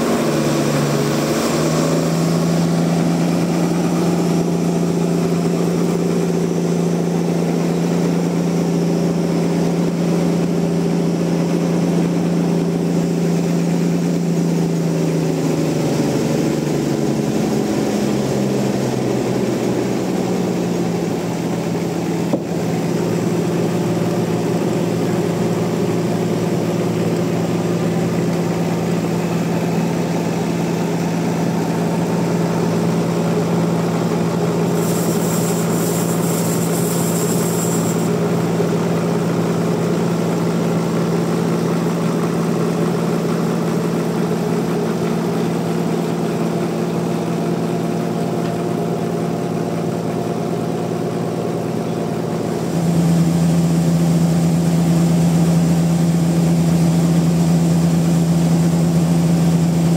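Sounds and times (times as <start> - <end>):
sawmill engine humming: 0.0 - 59.9.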